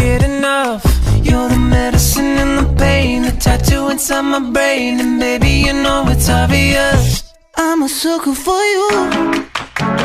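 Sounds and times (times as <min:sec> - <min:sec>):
pop music with synths: 0:00.0 - 0:10.0.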